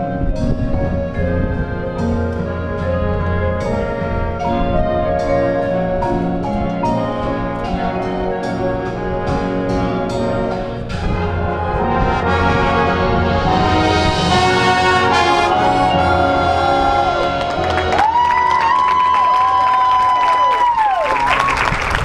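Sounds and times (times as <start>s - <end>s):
brass holding chords: 0.0s - 19.1s.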